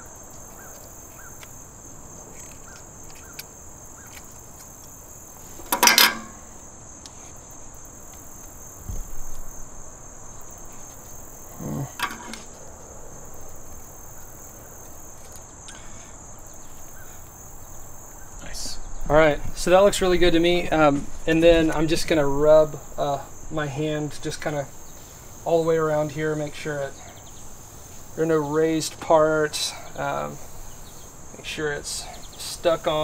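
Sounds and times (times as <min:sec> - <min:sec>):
rustling: 0:00.0 - 0:28.1
insects chorus: 0:00.0 - 0:33.0.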